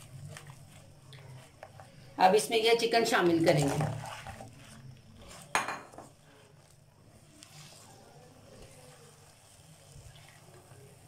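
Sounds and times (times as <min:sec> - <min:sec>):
faint sizzle: 0:00.0 - 0:11.0
spatula stirring sticky sauce: 0:00.0 - 0:11.0.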